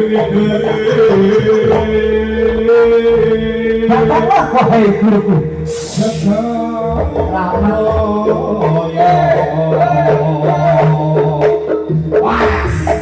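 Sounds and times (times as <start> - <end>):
hand-drum beats: 0.0 - 13.0
live band music: 0.0 - 13.0.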